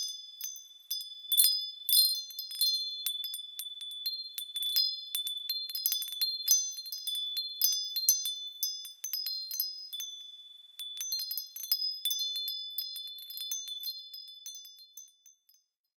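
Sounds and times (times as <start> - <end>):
wind chimes ringing: 0.0 - 15.7.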